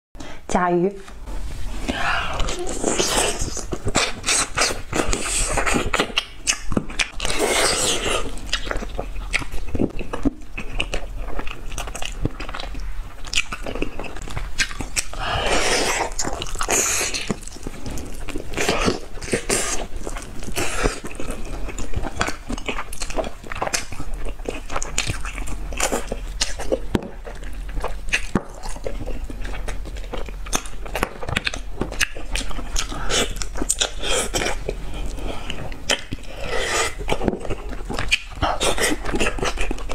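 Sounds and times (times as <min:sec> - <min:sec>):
woman chewing food: 0:01.6 - 0:39.9.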